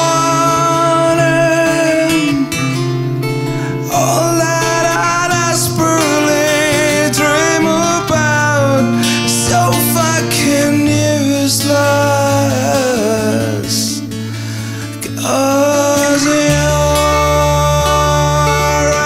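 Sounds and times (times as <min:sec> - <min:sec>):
man singing slow melody: 0:00.0 - 0:02.9, 0:03.5 - 0:19.0
acoustic guitars playing: 0:00.0 - 0:19.0.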